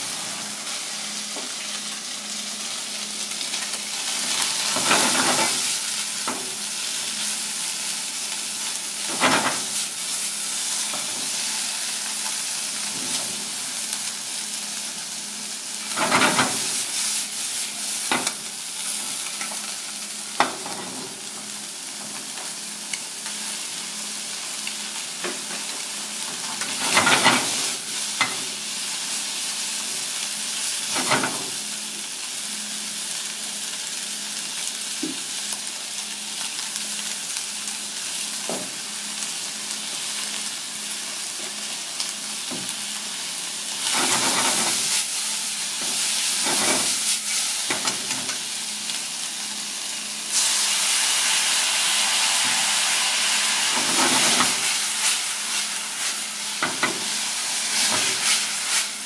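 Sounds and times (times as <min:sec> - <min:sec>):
food sizzling in a wok: 0:00.0 - 0:59.0.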